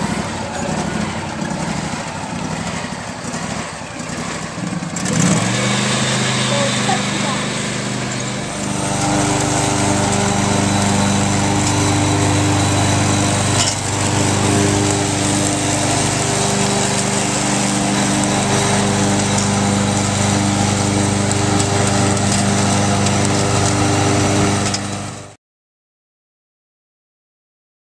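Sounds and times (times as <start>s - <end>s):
riding lawn mower engine: 0.0s - 25.4s.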